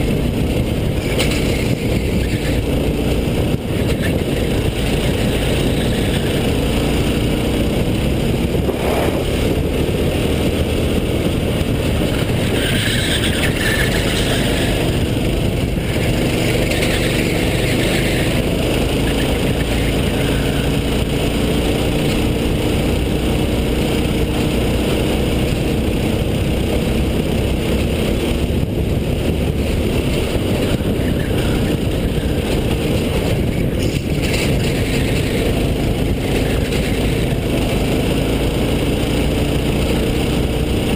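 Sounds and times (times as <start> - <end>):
go-kart engine revving: 0.0 - 40.9
rush of moving kart: 0.0 - 40.9.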